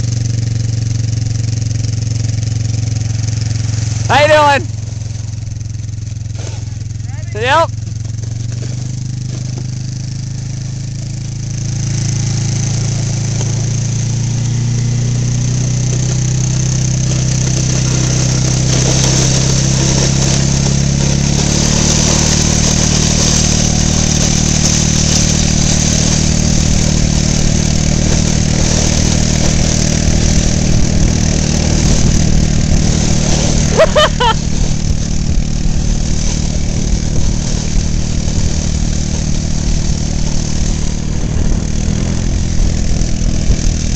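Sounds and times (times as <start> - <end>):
atv engine under load: 0.0 - 43.9.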